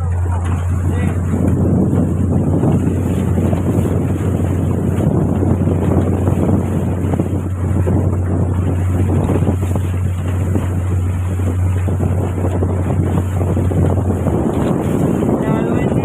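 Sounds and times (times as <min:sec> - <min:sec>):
boat engine droning: 0:00.0 - 0:16.0
wind buffeting microphone: 0:00.0 - 0:16.0.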